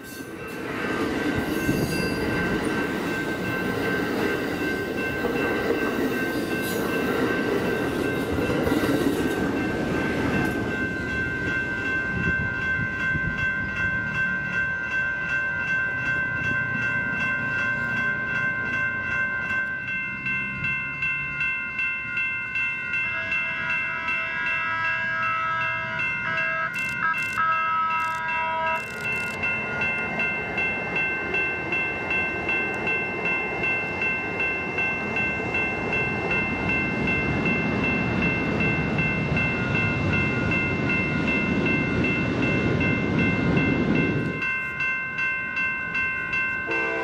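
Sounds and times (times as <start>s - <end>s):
train running on rails: 0.0s - 47.0s
high ringing tones: 1.4s - 47.0s.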